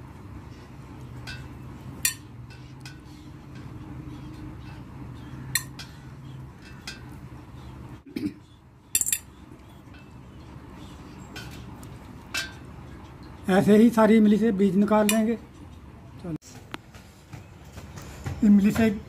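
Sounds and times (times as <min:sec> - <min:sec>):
low steady hum: 0:00.0 - 0:18.4.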